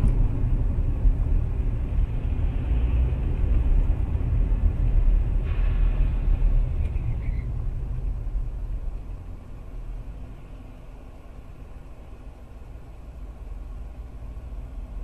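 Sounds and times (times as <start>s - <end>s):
car driving on road: 0.0s - 15.0s.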